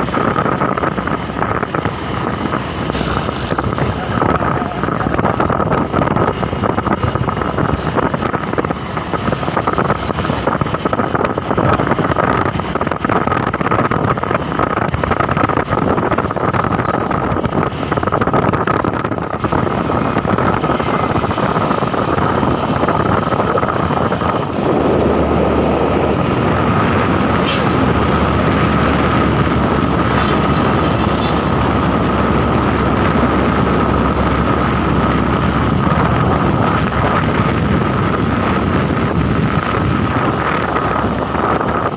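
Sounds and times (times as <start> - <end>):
constant high whine: 0.0 - 41.9
truck engine and road noise: 0.0 - 41.9
wind buffeting: 0.0 - 41.9.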